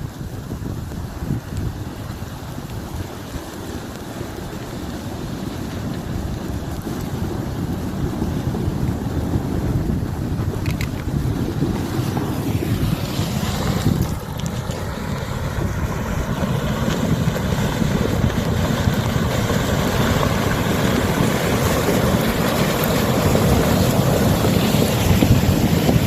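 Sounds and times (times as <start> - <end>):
river floodwater rushing: 0.0 - 26.0
wind buffeting microphone: 0.0 - 26.0.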